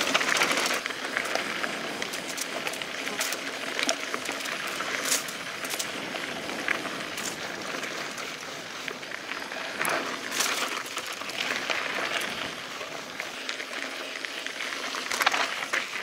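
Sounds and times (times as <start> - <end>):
bike tyres rolling on gravel: 0.0 - 16.0
stones clicking and bike rattling: 0.0 - 16.0.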